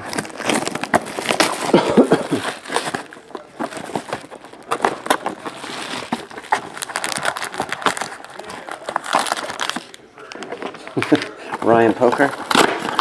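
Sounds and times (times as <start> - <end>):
cardboard box being opened: 0.0 - 13.0
foil packs rustling: 0.0 - 13.0
plastic shrink-wrap crinkling: 0.0 - 13.0.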